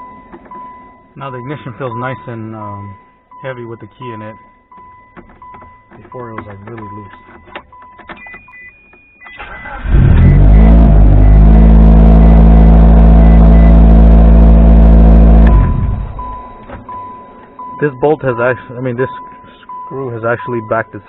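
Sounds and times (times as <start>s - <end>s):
car engine starting and running: 0.0s - 21.0s.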